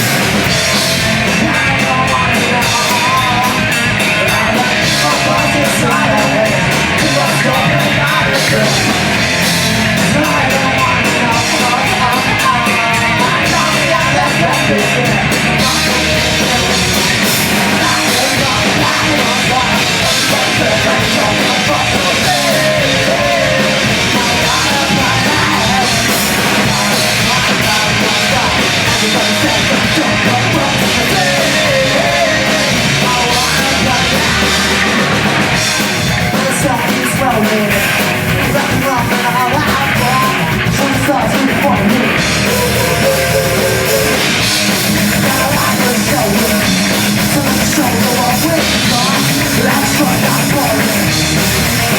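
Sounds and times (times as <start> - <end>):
punk band playing: 0.0 - 51.9.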